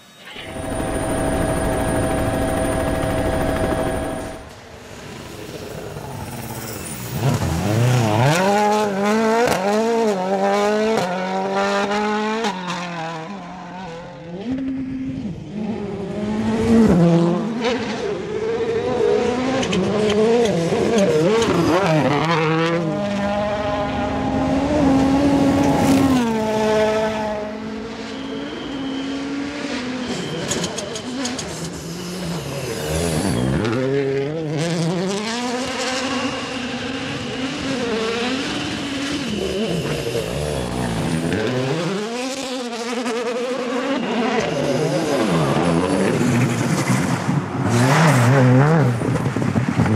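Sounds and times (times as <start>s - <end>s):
rally car engines revving: 0.5s - 49.9s.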